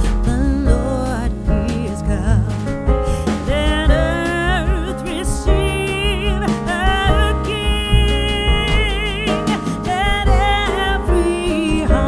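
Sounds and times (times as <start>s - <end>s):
song with sung melody: 0.0s - 12.0s
steady beat: 0.0s - 12.0s.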